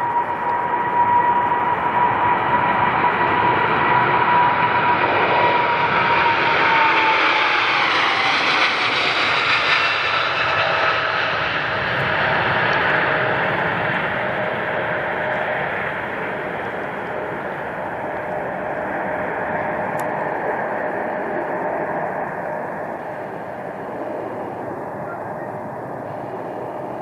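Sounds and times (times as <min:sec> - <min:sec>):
jet airliner engines roaring: 0:00.0 - 0:27.0.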